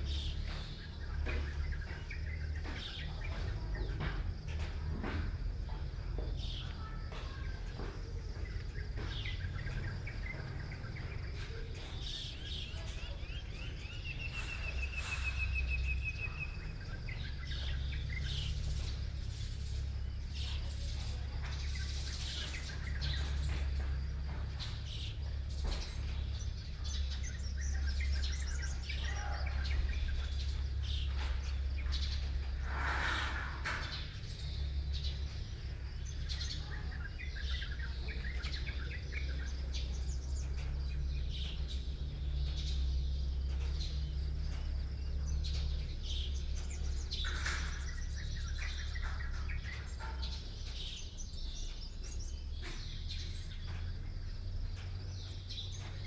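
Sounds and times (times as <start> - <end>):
small birds chirping: 0.0 - 56.0
steady low hum: 0.0 - 56.0
bird trill: 6.4 - 56.0.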